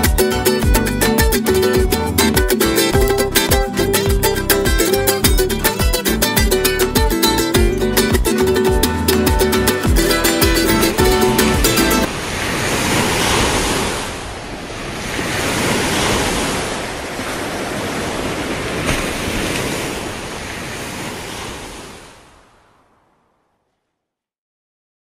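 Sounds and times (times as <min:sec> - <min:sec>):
ocean surf breaking: 0:00.0 - 0:23.4.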